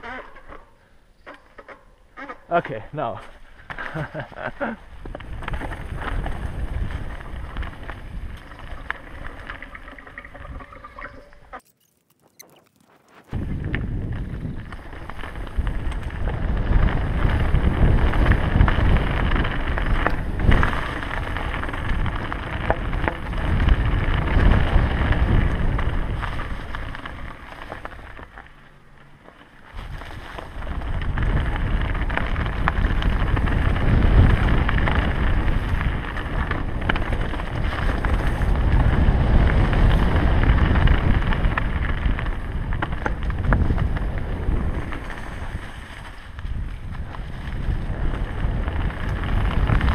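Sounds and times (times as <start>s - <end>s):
bike tyres crunching over leaves: 1.5s - 11.6s, 12.2s - 49.9s
wind rumbling on microphone: 2.5s - 11.6s, 12.3s - 49.9s.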